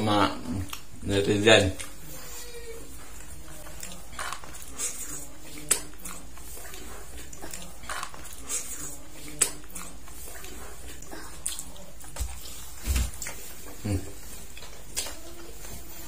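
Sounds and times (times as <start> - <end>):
chewing and lip smacks: 0.4 - 2.1, 2.9 - 16.0.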